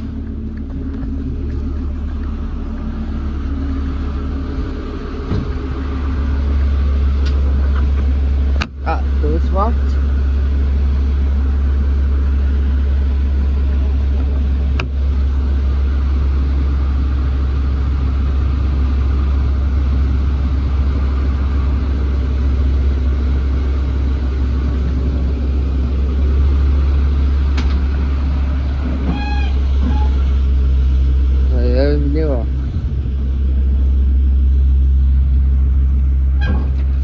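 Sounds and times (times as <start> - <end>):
truck engine rumbling: 0.0 - 37.0.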